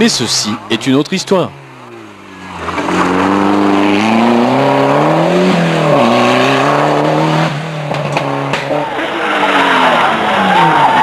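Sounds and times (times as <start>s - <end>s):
rally car engine accelerating: 1.5s - 11.0s.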